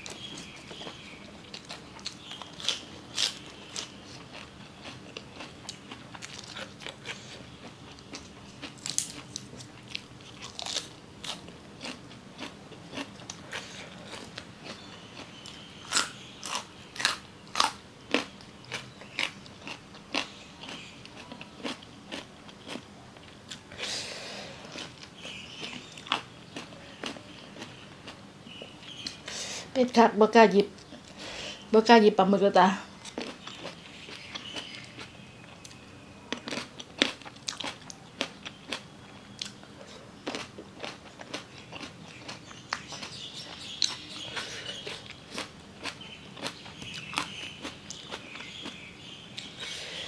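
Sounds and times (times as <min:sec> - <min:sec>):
crunching raw vegetables: 0:00.0 - 0:23.7, 0:24.6 - 0:29.2, 0:33.0 - 0:49.8.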